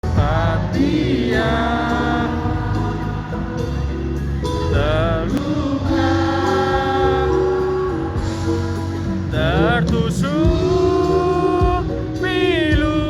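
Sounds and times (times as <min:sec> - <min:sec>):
band music with singing voice: 0:00.0 - 0:13.0.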